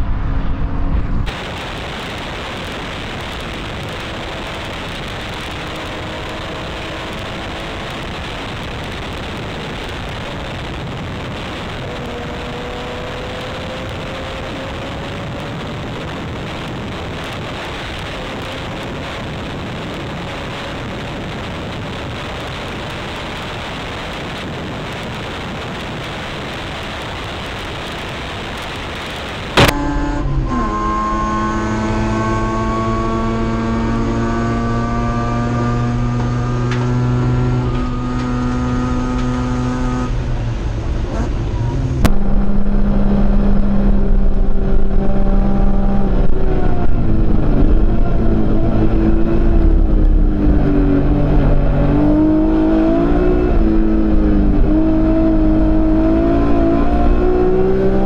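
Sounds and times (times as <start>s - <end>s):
racing car engine: 0.0s - 58.0s
rushing wind noise: 0.0s - 58.0s.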